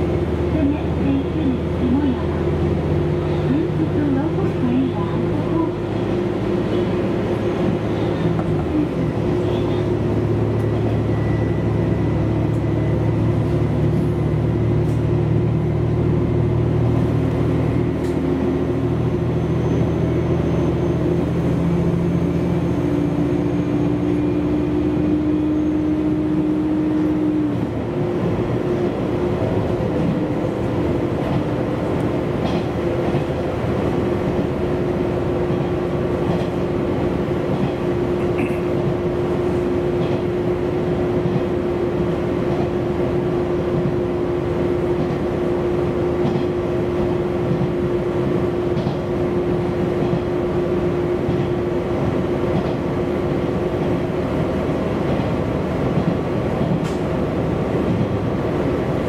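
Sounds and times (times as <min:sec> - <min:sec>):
diesel engine drone: 0:00.0 - 0:59.0
train running noise: 0:00.0 - 0:59.0.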